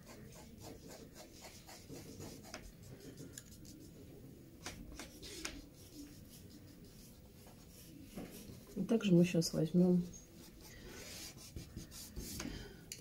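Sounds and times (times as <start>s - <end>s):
pencil scratching on paper: 0.0s - 4.0s, 5.0s - 9.1s, 10.0s - 12.5s.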